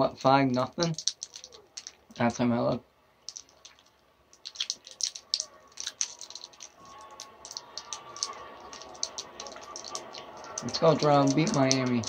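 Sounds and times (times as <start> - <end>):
faint steady background sound: 0.0 - 12.0
keyboard typing: 0.8 - 2.0, 3.3 - 12.0.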